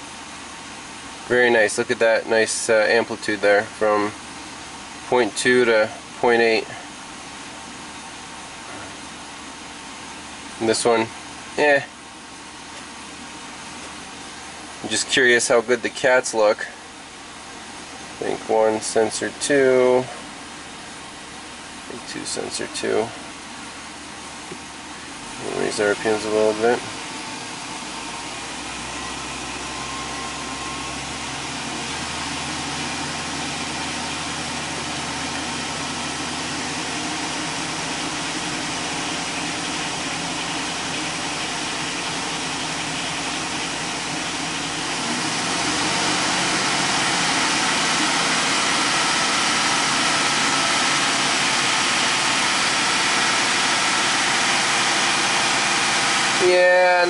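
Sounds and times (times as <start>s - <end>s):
engine hiss: 0.0s - 57.0s
truck engine running above idle: 0.0s - 57.0s.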